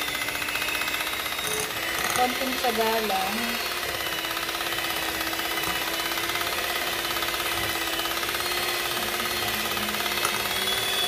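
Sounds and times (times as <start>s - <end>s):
electric hand mixer whipping cream: 0.0s - 11.0s.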